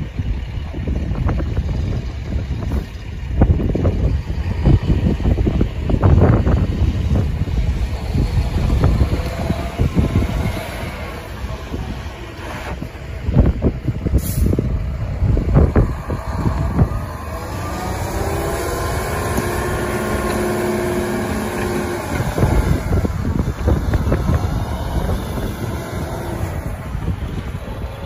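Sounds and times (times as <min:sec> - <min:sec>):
diesel truck engine passing: 0:00.0 - 0:28.0
plow blade pushing snow: 0:00.0 - 0:28.0
wind buffeting microphone: 0:00.0 - 0:28.0.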